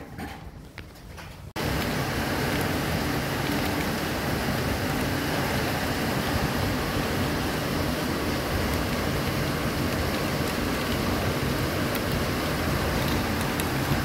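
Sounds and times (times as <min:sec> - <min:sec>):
heavy rain pouring: 0:01.6 - 0:14.0.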